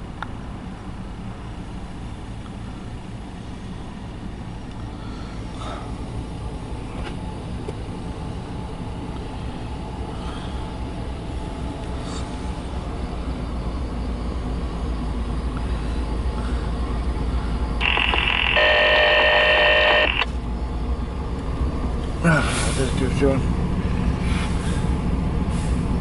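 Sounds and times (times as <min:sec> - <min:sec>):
diesel locomotives rumbling past: 0:00.0 - 0:17.9, 0:18.6 - 0:26.0.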